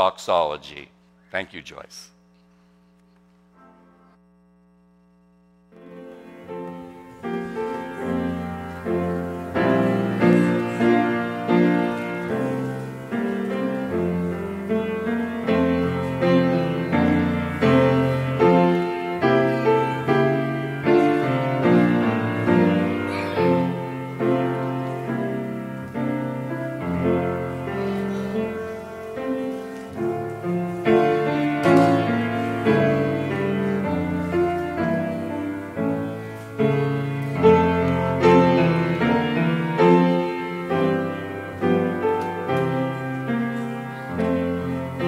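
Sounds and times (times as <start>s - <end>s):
solo grand piano chords: 5.7s - 45.0s.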